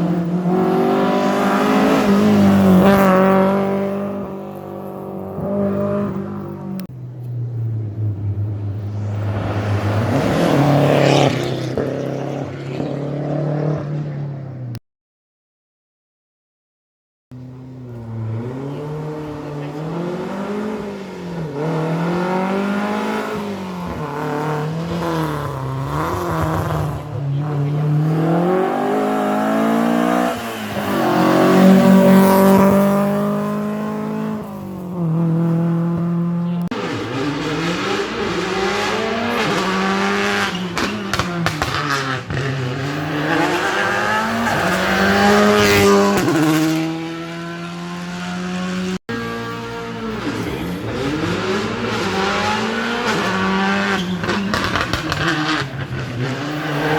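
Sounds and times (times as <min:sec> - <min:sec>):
rally car engine revving: 0:00.0 - 0:14.8, 0:17.3 - 0:56.9.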